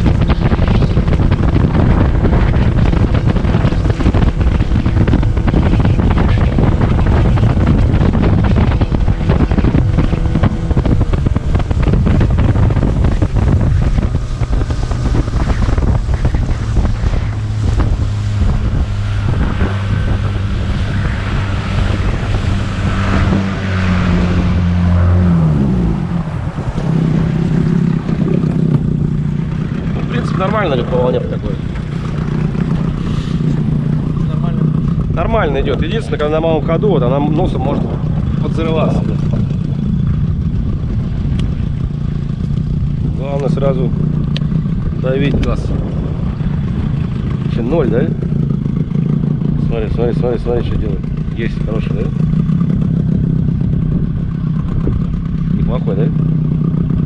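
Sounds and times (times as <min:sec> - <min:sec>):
outboard motor running: 0:00.0 - 0:57.0
wind buffeting microphone: 0:00.0 - 0:57.0.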